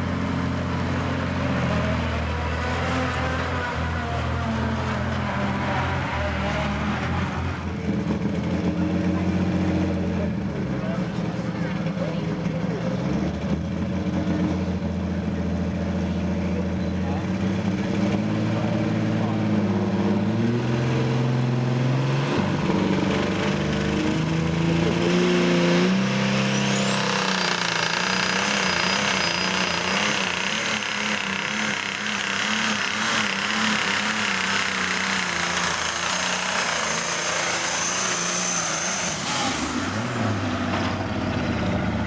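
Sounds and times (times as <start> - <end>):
tractor engine under full load: 0.0 - 42.0.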